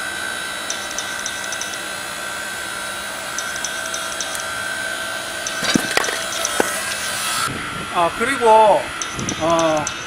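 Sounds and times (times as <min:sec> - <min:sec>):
hydraulic log splitter whine: 0:00.0 - 0:09.4.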